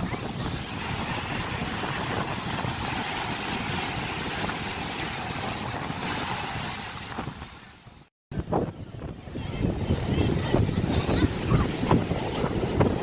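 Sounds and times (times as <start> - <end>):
waves washing on sand: 0.0 - 7.9, 9.2 - 13.0
wind on microphone: 0.0 - 13.0.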